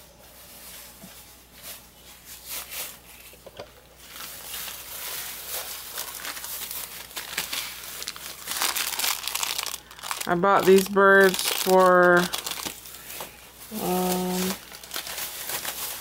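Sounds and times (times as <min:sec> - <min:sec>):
plastic packaging crinkling: 0:01.5 - 0:16.0.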